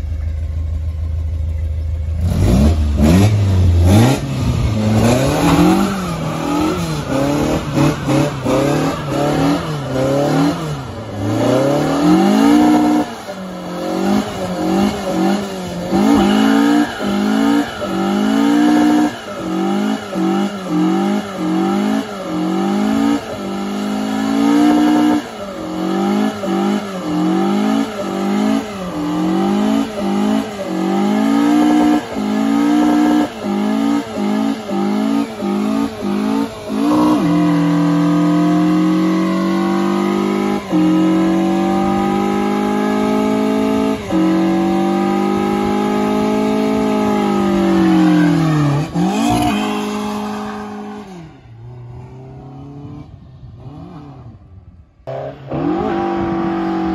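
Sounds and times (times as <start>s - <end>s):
car engine revving hard: 2.2s - 54.4s, 55.1s - 56.9s.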